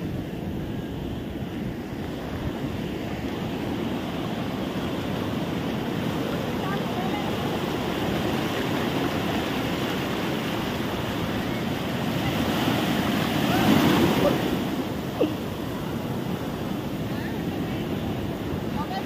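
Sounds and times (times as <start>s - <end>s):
ocean surf washing on beach: 0.0s - 19.0s.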